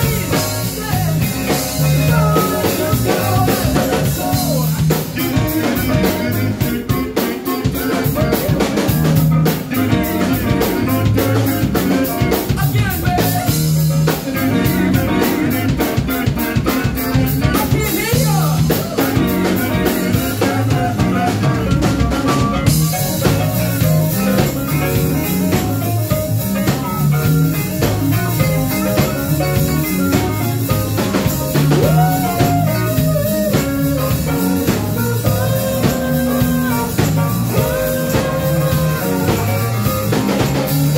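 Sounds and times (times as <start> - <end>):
person singing: 0.0 - 25.5, 27.8 - 40.9
drum kit: 0.0 - 40.9
electric guitar: 0.0 - 40.9
keyboard: 0.0 - 40.9.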